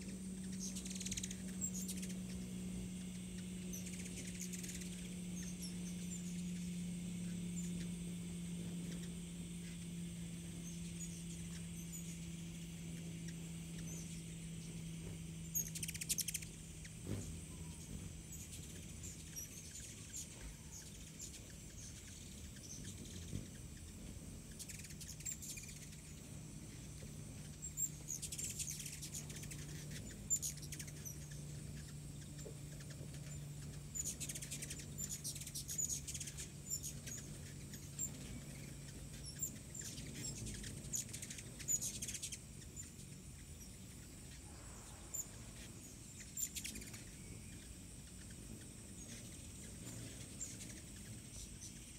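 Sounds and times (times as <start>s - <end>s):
faint high drone: 0.0s - 51.9s
hummingbird chips and twitters: 0.0s - 51.9s
steady low hum: 0.0s - 51.9s.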